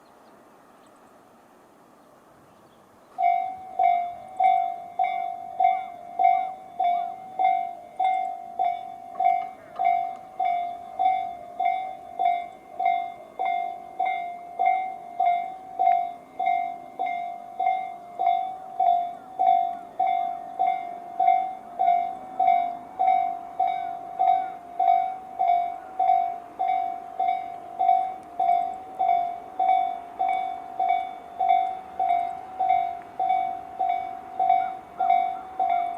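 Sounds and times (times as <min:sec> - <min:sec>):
level crossing alarm dinging: 0:03.2 - 0:35.9.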